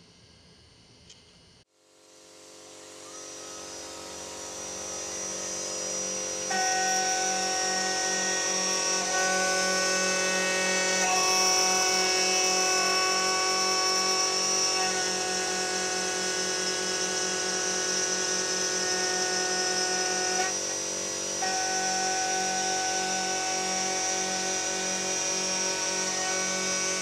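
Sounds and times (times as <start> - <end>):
pulsing motor hum: 2.0 - 27.0
milling machine whine: 2.2 - 27.0.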